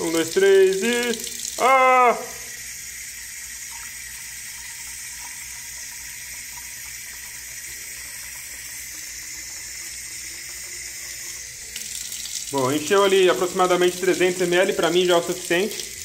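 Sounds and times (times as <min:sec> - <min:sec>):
tap water filling plastic tank: 0:00.0 - 0:16.0.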